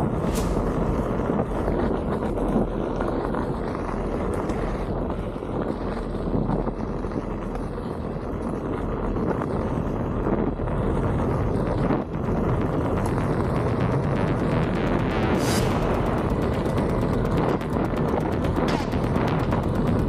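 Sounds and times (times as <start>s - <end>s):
wind over microphone: 0.0s - 20.0s.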